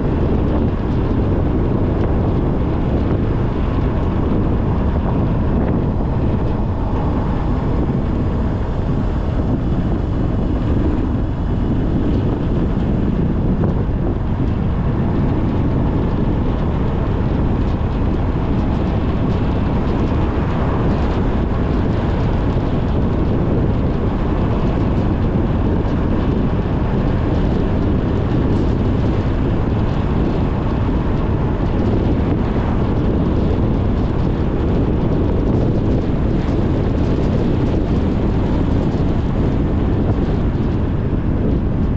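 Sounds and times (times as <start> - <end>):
moving vehicle low rumble: 0.0 - 41.9.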